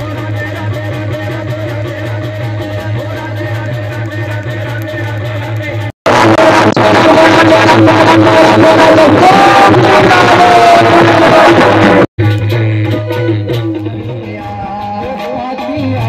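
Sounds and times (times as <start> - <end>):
folk devotional music: 0.0 - 16.0
man singing: 0.0 - 16.0.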